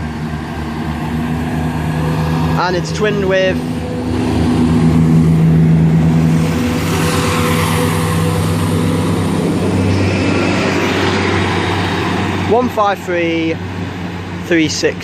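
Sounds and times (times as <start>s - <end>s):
diesel train engine drone: 0.0s - 15.0s.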